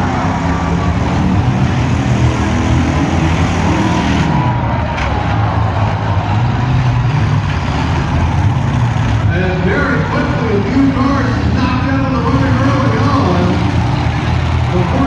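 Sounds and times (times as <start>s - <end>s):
car engines running loudly: 0.0s - 15.0s
cars ramming each other: 0.0s - 15.0s.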